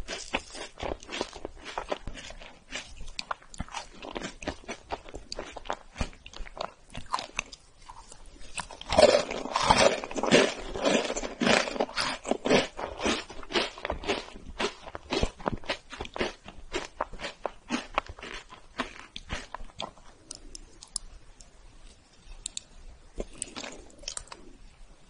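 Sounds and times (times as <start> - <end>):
crunching bite: 0.0 - 21.1, 22.4 - 24.5
moist chewing: 0.0 - 24.6.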